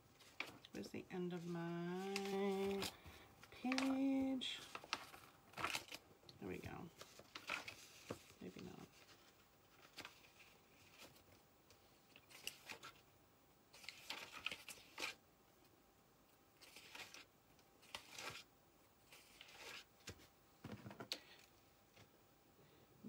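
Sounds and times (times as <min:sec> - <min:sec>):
faint rustling and crinkling: 0:00.0 - 0:13.1, 0:13.7 - 0:22.2.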